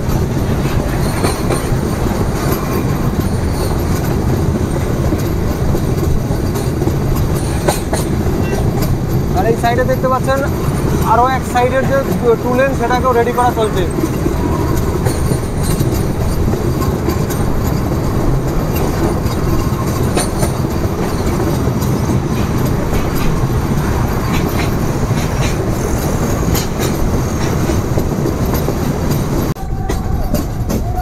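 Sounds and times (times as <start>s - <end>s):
electric train running at speed: 0.0s - 31.0s.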